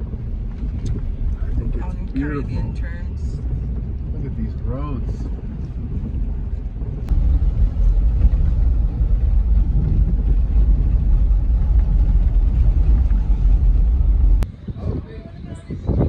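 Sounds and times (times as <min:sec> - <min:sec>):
car engine and road rumble: 0:00.0 - 0:15.3.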